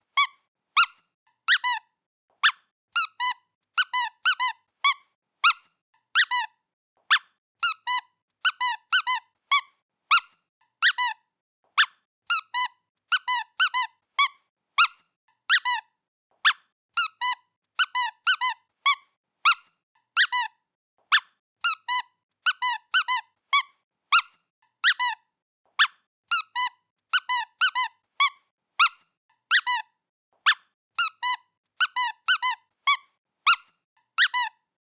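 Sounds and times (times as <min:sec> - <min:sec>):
squeaky toy squeaking: 0:00.1 - 0:11.2, 0:11.8 - 0:34.6.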